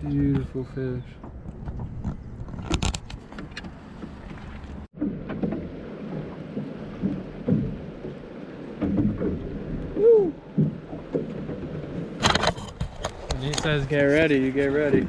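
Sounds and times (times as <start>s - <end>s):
knocks and handling noise on boat: 0.0s - 15.0s
water sounds: 0.0s - 15.0s.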